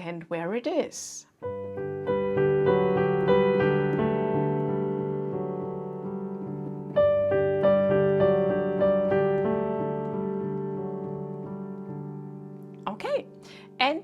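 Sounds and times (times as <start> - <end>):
calm piano playing: 1.4 - 14.0.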